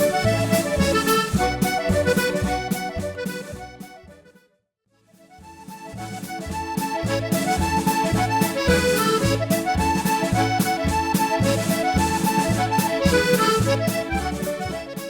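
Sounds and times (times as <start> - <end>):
accordion playing a reel: 0.0 - 4.5, 5.1 - 15.0.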